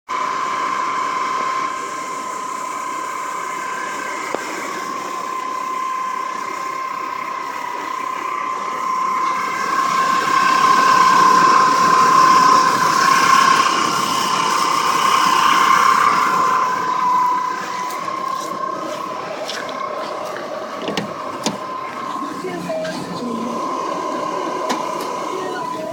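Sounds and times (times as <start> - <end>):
steady mechanical whine: 0.1 - 25.9
rushing noise: 0.2 - 25.9.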